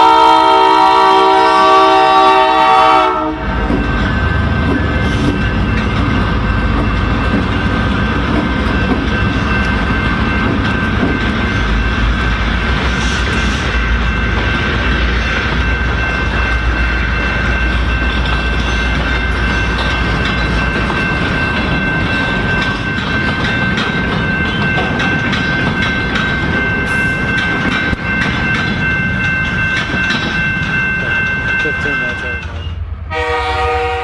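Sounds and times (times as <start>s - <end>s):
crossing bell ringing: 0.0s - 34.0s.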